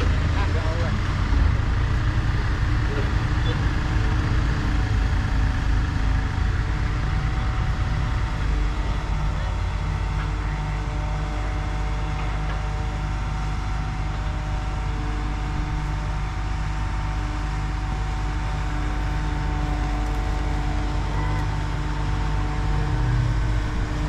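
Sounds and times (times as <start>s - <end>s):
machine engine drone: 0.0s - 24.0s.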